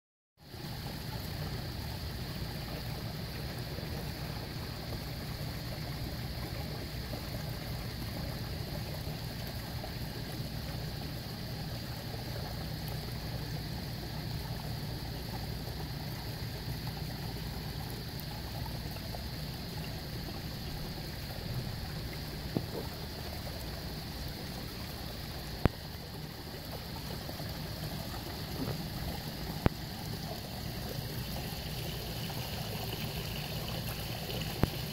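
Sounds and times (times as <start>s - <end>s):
water splashing into pond: 0.4s - 34.9s.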